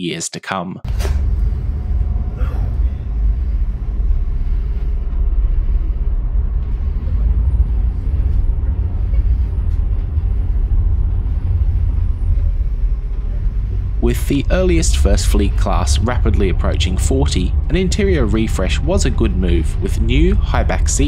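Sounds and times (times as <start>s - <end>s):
ferry diesel engine rumble: 0.9s - 21.0s.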